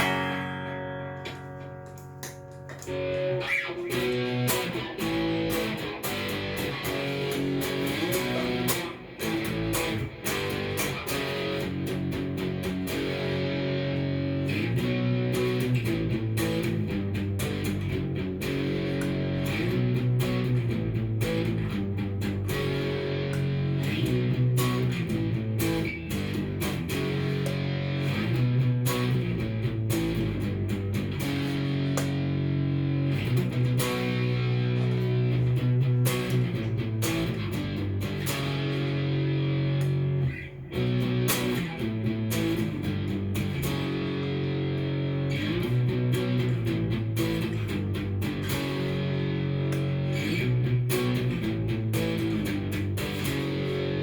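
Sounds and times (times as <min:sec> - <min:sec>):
electric guitar chords and notes: 0:00.0 - 0:54.0.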